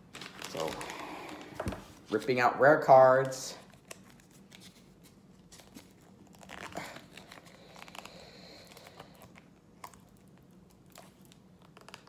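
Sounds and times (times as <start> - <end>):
plastic wrapping crinkling: 0.0 - 2.2, 3.1 - 12.0.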